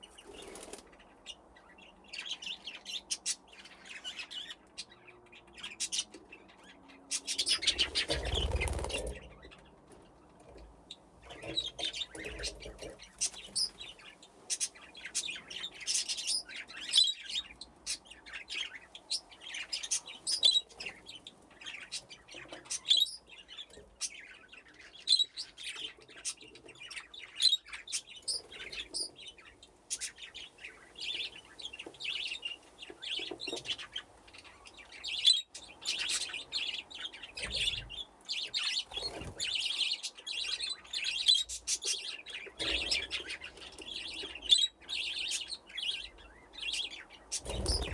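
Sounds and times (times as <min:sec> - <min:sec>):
budgerigars chirping: 0:00.0 - 0:09.5, 0:11.3 - 0:47.9.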